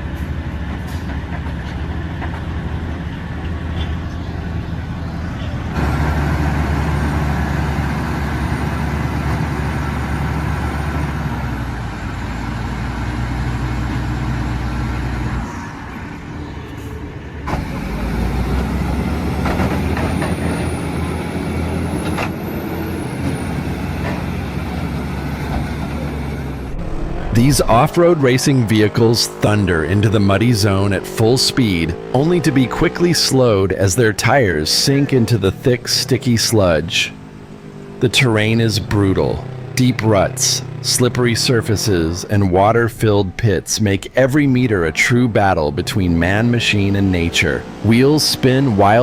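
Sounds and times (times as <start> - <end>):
heavy truck engines running: 0.0 - 49.0.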